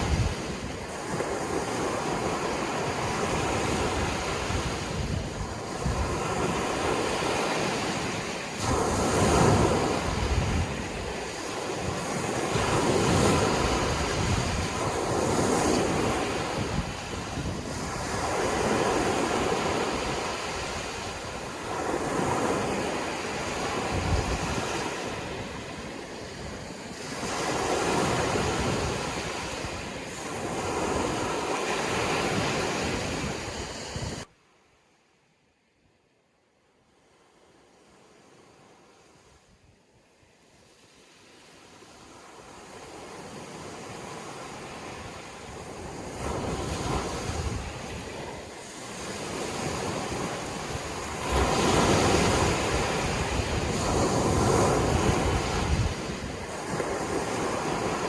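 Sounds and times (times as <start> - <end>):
sea waves washing ashore: 0.0 - 34.6, 36.9 - 58.0.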